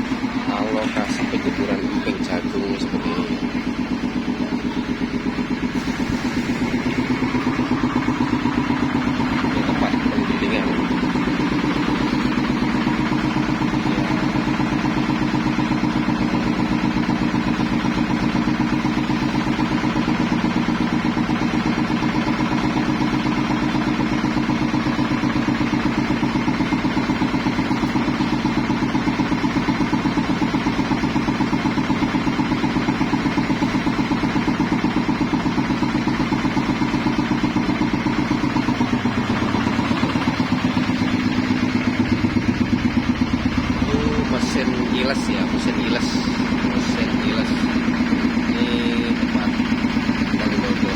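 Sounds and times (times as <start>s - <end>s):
grinding machine engine running: 0.0s - 50.9s.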